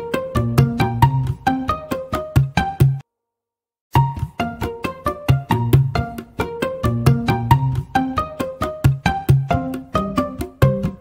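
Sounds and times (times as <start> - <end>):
light bouncy tune over bass: 0.0 - 3.0, 3.9 - 11.0.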